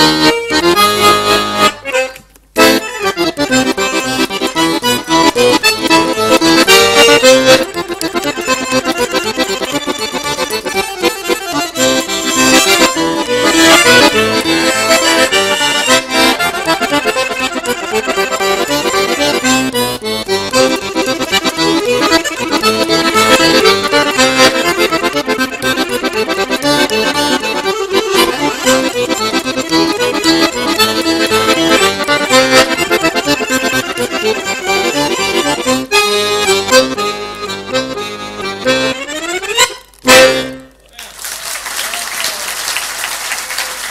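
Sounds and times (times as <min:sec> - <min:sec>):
accordion playing fast piece: 0:00.0 - 0:40.8.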